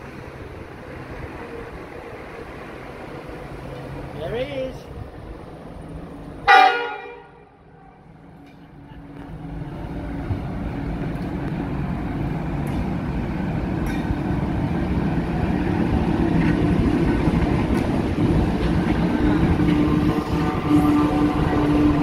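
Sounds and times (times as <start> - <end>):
train wheel noise: 0.0 - 7.2, 7.8 - 22.0
diesel locomotive engine: 0.0 - 22.0.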